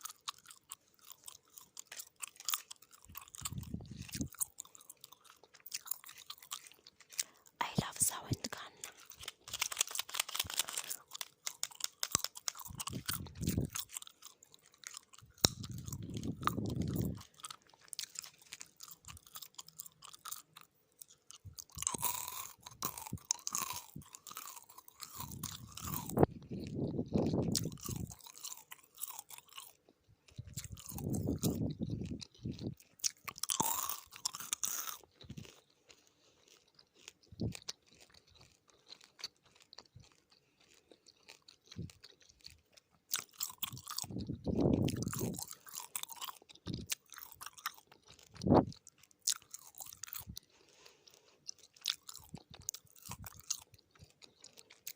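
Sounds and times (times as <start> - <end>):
gum chewing mouth clicks: 0.0 - 54.9.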